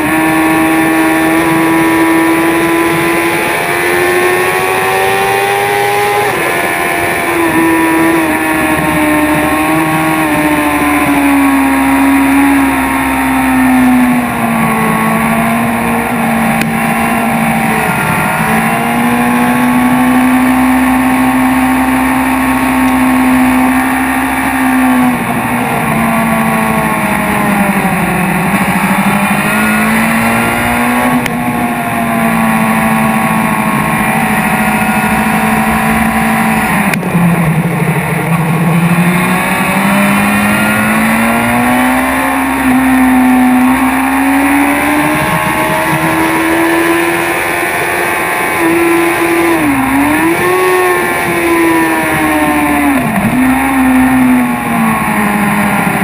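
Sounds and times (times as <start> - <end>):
motorcycle engine revving: 0.0 - 56.0
motorcycle shifting gears: 0.0 - 56.0.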